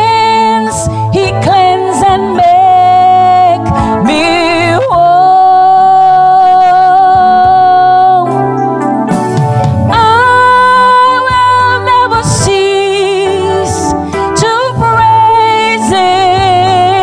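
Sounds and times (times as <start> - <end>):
person singing a hymn: 0.0 - 8.4, 9.9 - 17.0
keyboard accompaniment: 0.0 - 17.0.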